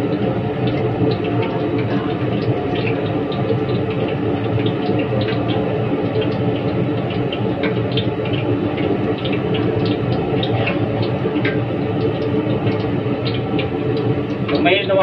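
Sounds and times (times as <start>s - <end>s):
gas burner roaring: 0.0s - 15.0s
oil crackling and popping: 0.0s - 15.0s.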